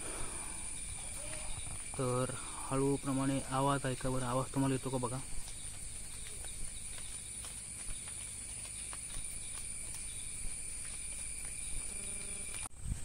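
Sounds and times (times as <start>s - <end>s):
shrill insect chorus: 0.0s - 12.7s.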